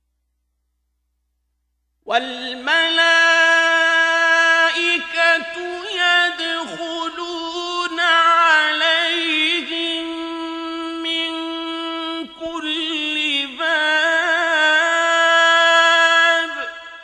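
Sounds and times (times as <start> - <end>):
man reciting melodically: 2.0 - 17.0.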